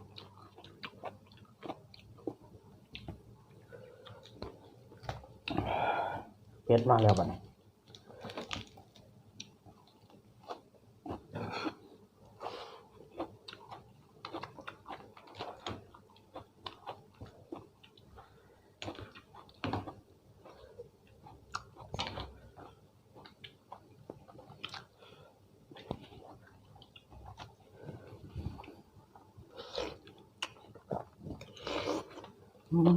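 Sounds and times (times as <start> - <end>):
person chewing food: 0.0 - 6.0, 7.8 - 32.4.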